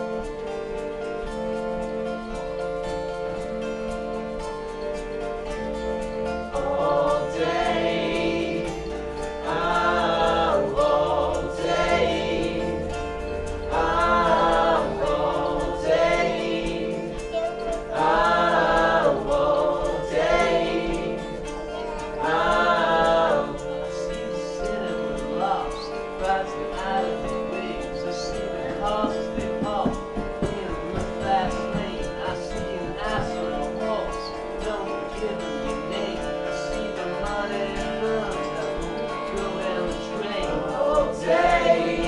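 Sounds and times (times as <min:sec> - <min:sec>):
strummed acoustic guitar: 0:00.0 - 0:42.0
voices singing: 0:00.0 - 0:42.0.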